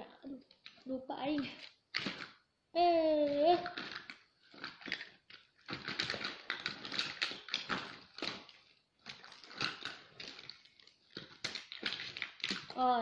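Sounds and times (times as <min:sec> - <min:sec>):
cosmetics rattling and clattering: 0:00.4 - 0:02.4, 0:03.2 - 0:13.0.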